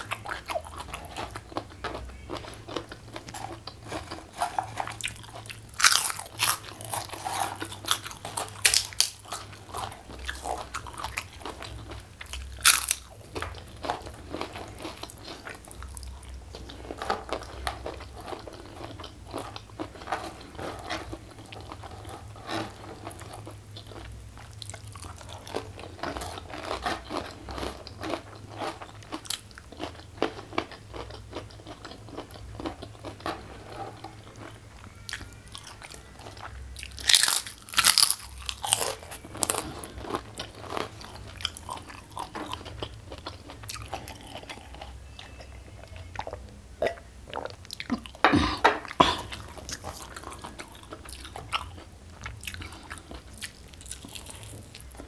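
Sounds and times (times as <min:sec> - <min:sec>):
crunching crisp crackers: 0:00.0 - 0:46.5, 0:49.2 - 0:55.0.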